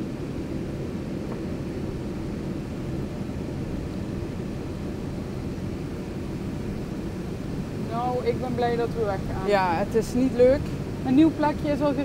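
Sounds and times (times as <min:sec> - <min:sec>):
engine and road rumble inside cab: 0:00.0 - 0:12.0.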